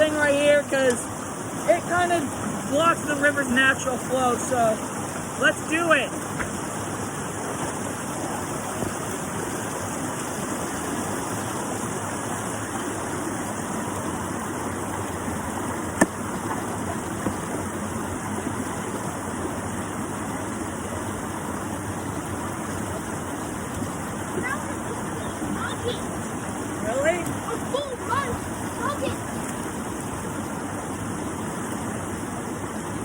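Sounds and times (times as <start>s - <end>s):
creek water running: 0.0s - 33.0s.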